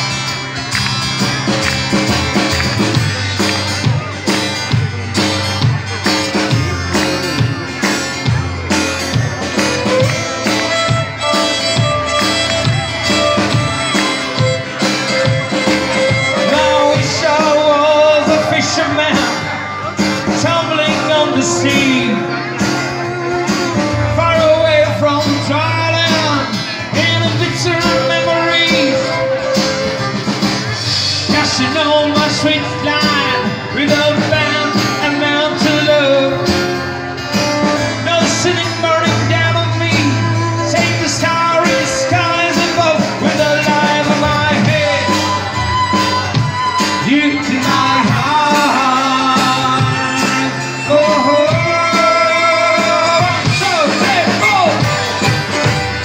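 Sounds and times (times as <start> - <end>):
live band playing: 0.0 - 56.0
violin: 0.0 - 56.0
person singing: 9.6 - 30.2, 30.9 - 55.7.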